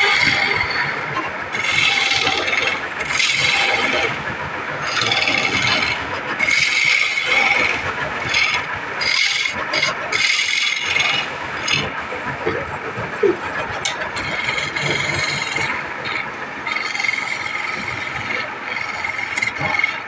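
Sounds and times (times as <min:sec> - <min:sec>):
chisel scraping wood on lathe: 0:00.0 - 0:20.0
lathe motor running: 0:00.0 - 0:20.0.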